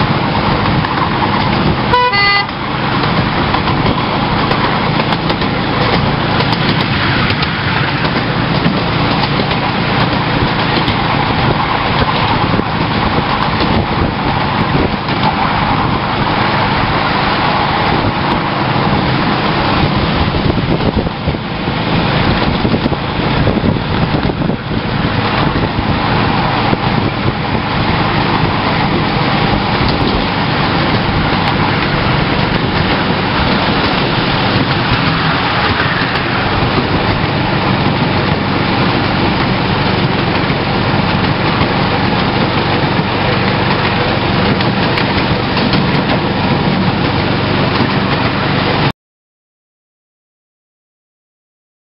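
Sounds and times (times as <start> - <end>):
miniature train running: 0.1 - 48.9.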